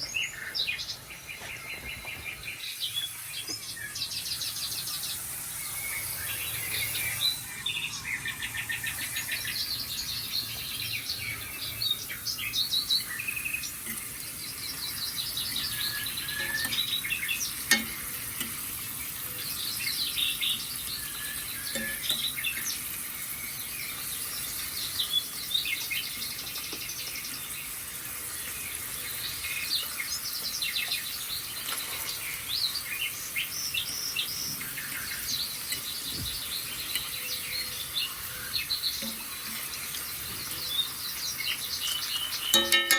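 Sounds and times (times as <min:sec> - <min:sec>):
faint hiss: 0:00.0 - 0:42.6
recorded birds chirping: 0:00.0 - 0:42.9.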